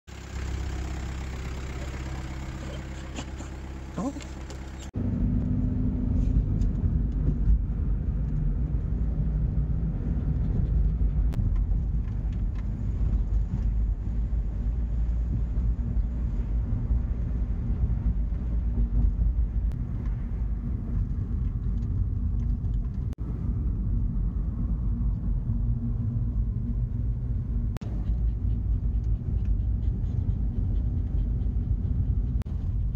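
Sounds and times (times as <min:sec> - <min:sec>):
van engine and road rumble: 0:00.1 - 0:32.9.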